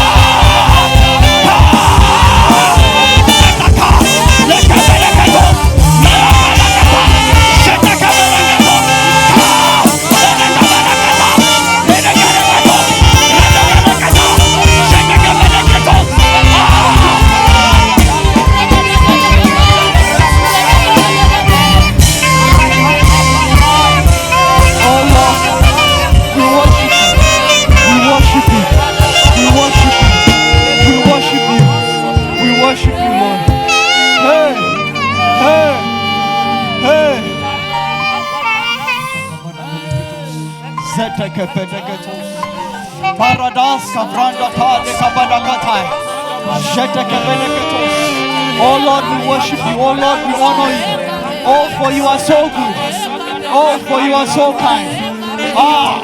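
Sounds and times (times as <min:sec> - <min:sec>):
live gospel band music: 0:00.0 - 0:56.0
saxophone lead melody: 0:00.0 - 0:56.0.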